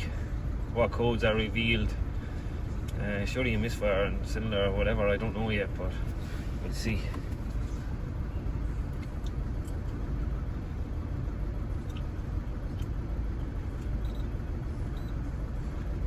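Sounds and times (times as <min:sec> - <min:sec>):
diesel engine idling rough: 0:00.0 - 0:16.0.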